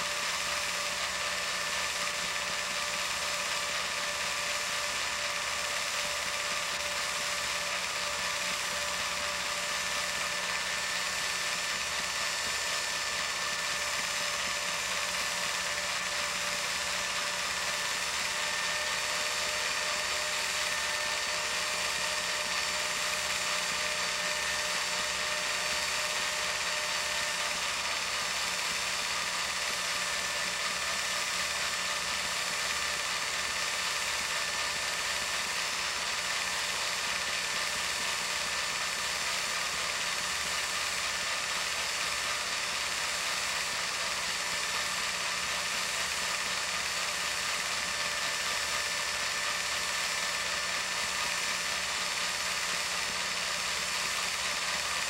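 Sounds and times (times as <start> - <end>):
film projector whirring and clattering: 0.0 - 55.0.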